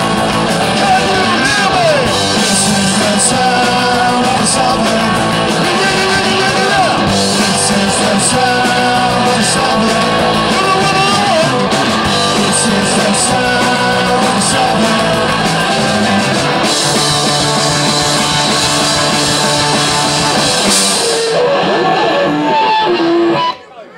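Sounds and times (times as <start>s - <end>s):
punk rock band playing: 0.0s - 23.7s.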